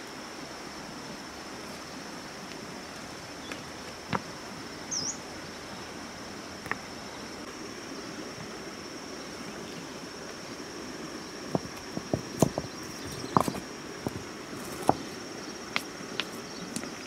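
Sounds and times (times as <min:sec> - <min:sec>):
background hiss: 0:00.0 - 0:17.0
insects trilling: 0:00.0 - 0:17.0.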